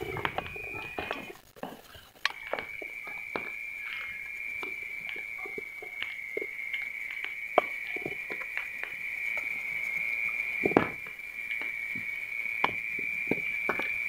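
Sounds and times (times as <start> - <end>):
coir burning crackling: 0.0 - 14.0.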